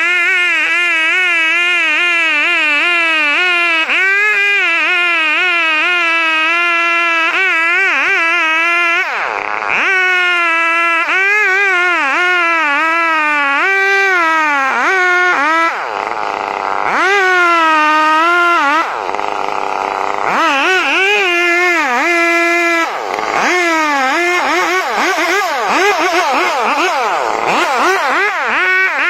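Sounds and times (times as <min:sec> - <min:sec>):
chainsaw cutting through wood: 0:00.0 - 0:29.0.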